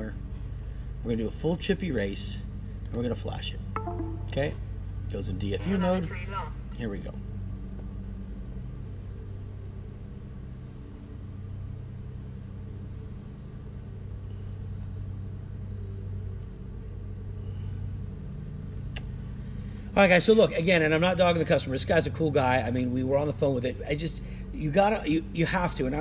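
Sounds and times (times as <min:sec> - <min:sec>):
faint high whine: 0:00.0 - 0:26.0
low room hum: 0:00.0 - 0:26.0.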